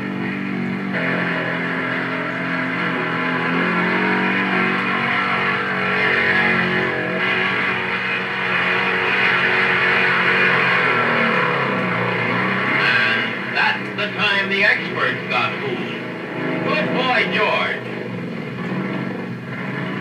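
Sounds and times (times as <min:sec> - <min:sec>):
propeller airplane engine: 0:00.0 - 0:20.0.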